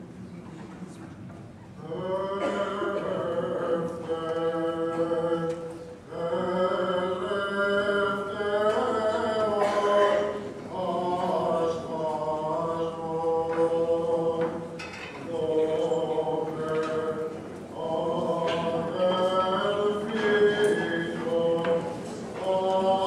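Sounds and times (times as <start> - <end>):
several voices chanting: 1.8 - 23.0.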